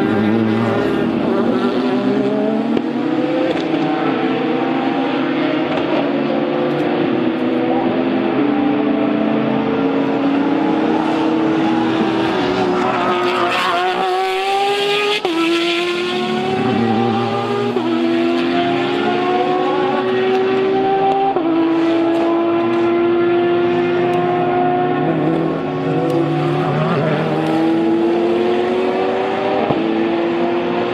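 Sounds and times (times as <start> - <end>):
race car engine accelerating: 0.0 - 30.9.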